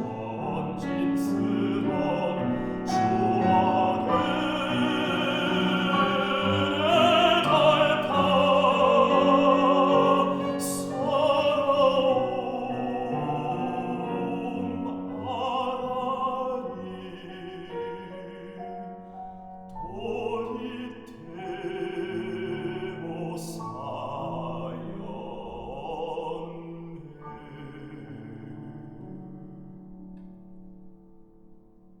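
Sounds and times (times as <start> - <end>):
operatic baritone singing: 0.0 - 19.0, 19.7 - 29.2
classical instrumental accompaniment: 0.0 - 32.0.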